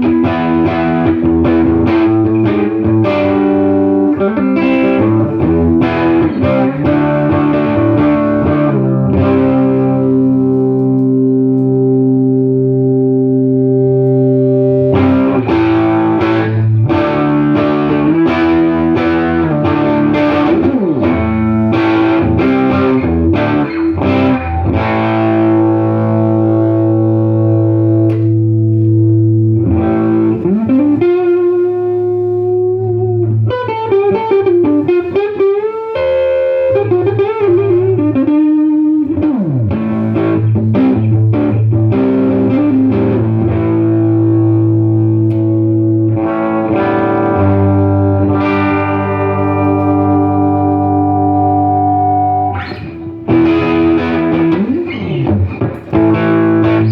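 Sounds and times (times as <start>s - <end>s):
electric guitar playing: 0.0s - 56.9s.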